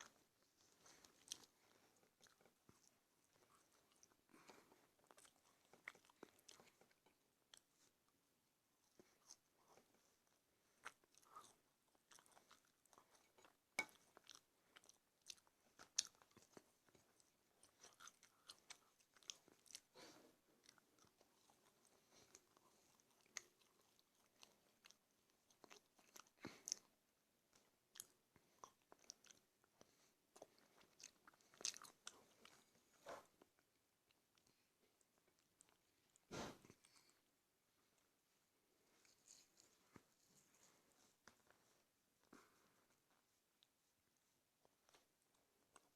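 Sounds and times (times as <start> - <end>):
person chewing food: 0.0 - 8.2, 8.8 - 37.3, 38.9 - 45.9.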